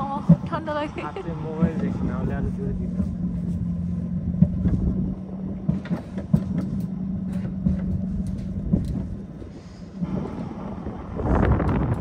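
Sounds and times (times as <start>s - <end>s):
wheels knocking on track joints: 0.0s - 3.5s, 4.2s - 12.0s
coaster sled hum and rumble: 0.0s - 12.0s.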